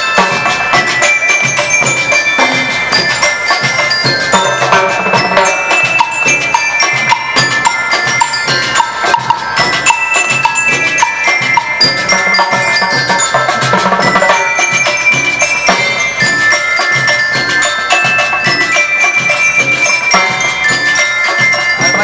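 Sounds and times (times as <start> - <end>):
bell lyres ringing melody: 0.0 - 22.0
drum kit: 0.0 - 22.0
snare drums: 0.0 - 22.0.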